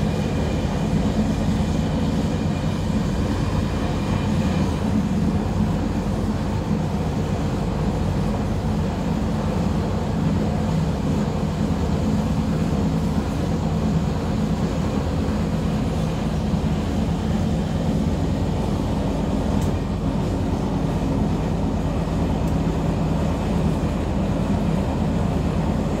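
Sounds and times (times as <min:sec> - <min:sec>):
train rumbling along track: 0:00.0 - 0:26.0.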